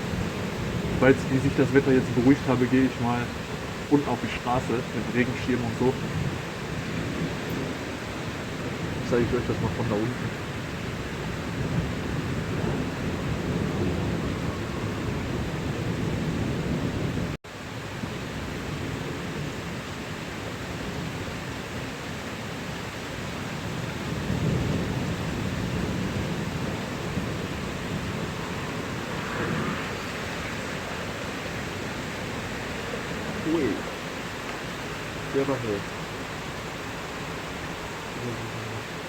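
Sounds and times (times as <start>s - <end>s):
low thunder rumbling: 0.0s - 17.4s, 23.3s - 39.0s
heavy rain: 0.0s - 39.0s.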